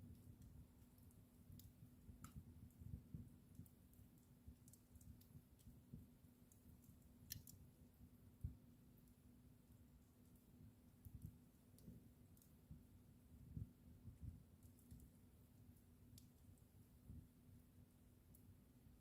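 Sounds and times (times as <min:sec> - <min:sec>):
faint steady hum: 0:00.0 - 0:19.0
wood fire crackling: 0:00.0 - 0:19.0.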